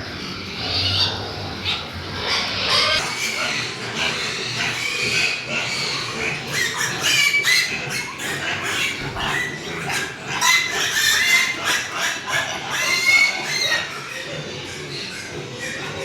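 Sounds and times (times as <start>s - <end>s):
pigs squealing: 0.0s - 16.0s.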